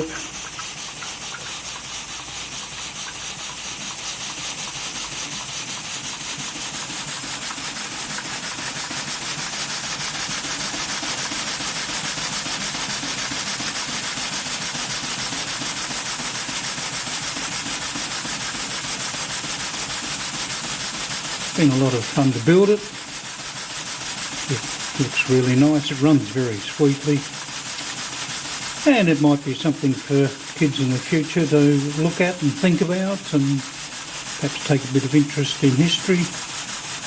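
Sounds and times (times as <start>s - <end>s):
model steam engine exhaust beat: 0.0s - 37.0s.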